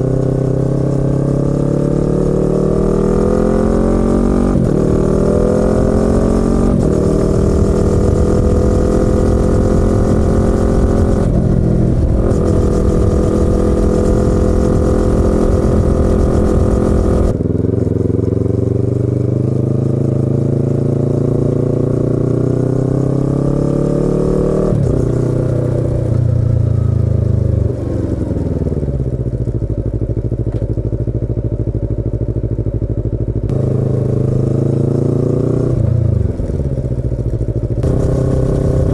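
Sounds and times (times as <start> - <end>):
motorcycle engine revving and downshifting: 0.0 - 28.9, 33.4 - 38.9.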